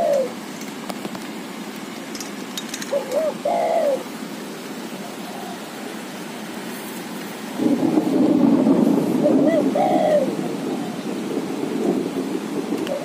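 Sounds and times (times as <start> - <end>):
dove cooing: 0.0 - 1.2, 2.7 - 6.7, 7.6 - 13.0
steady low hiss: 0.0 - 13.0.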